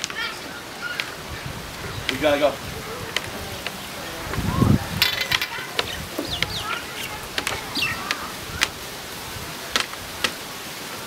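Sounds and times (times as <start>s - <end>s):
birds chirping: 0.0s - 9.8s
wind noise: 0.0s - 10.3s.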